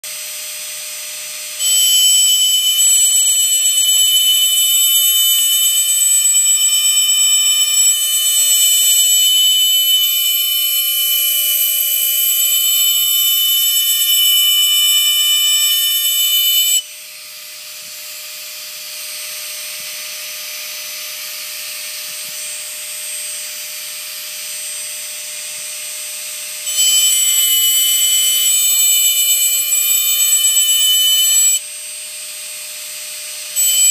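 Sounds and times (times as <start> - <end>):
rotary tool whining: 0.1 - 33.9.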